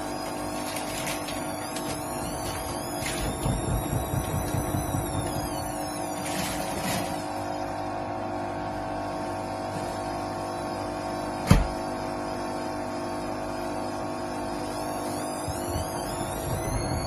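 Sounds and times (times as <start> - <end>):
washing machine running: 0.0 - 17.0.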